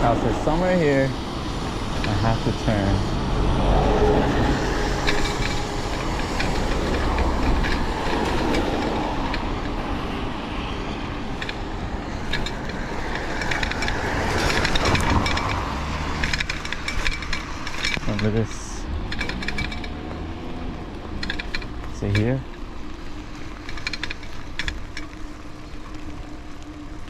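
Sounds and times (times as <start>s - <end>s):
bicycle rattles and clicks: 0.0s - 27.0s
wind and tyre noise: 0.0s - 27.0s.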